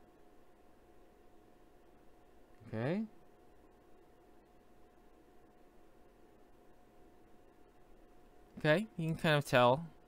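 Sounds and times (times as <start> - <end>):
thin steady hum: 0.0 - 10.0.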